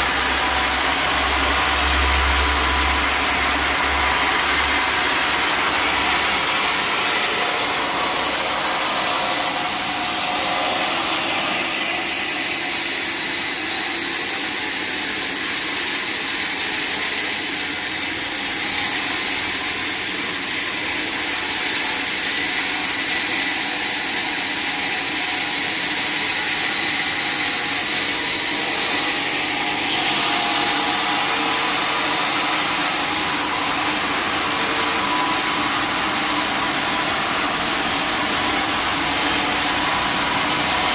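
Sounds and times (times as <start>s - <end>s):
mill engine: 0.0s - 40.9s
saw cutting through log: 0.0s - 40.9s.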